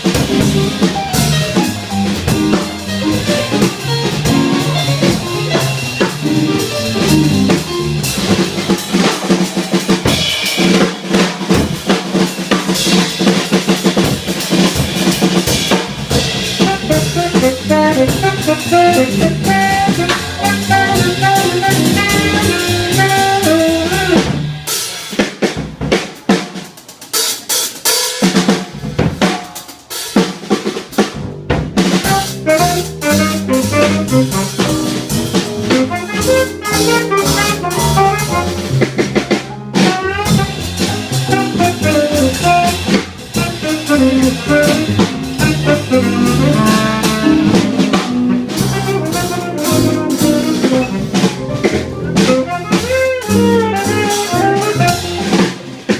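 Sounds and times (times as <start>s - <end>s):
bass: 0.0s - 26.0s, 27.1s - 55.9s
drum kit: 0.0s - 55.9s
jazz band playing: 0.0s - 55.9s
piano: 0.0s - 55.9s.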